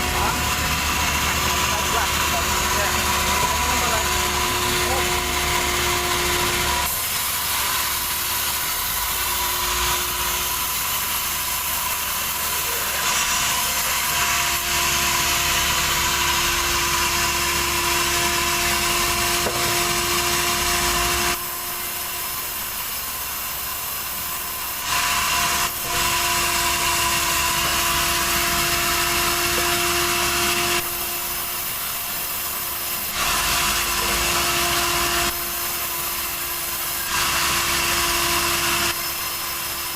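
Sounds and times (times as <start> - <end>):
machine hum: 0.0 - 38.9
saw cutting through log: 0.0 - 39.9.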